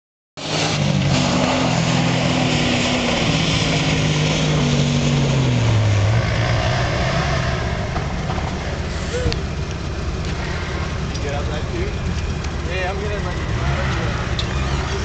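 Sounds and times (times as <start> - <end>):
car engine running under load: 0.4 - 15.0.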